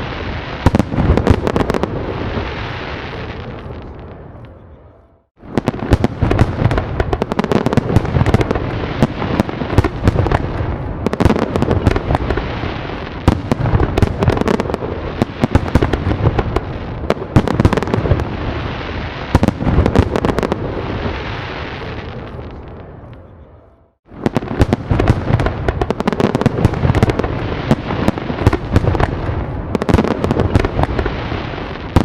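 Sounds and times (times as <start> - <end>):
fireworks crackling and popping: 0.0 - 4.6, 5.3 - 23.3, 24.0 - 32.0
rumble of fireworks booms: 0.0 - 23.3, 24.1 - 32.0.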